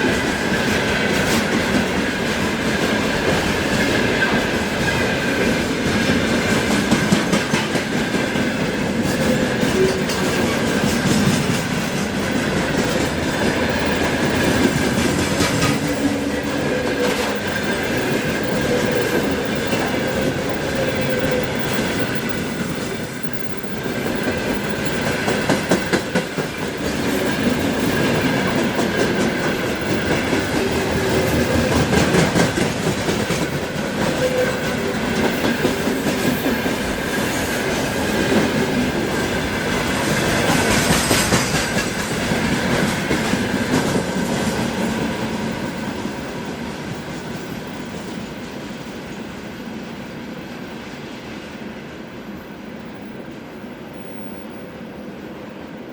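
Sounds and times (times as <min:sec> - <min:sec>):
train wheels clattering over rail joints: 0:00.0 - 0:45.6.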